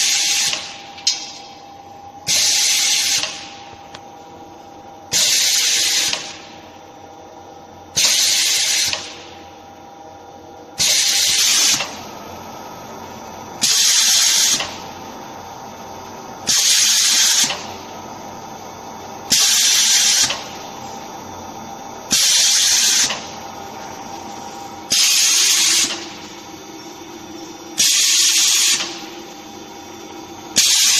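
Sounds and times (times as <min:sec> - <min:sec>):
steady machine hum: 0:00.0 - 0:30.9.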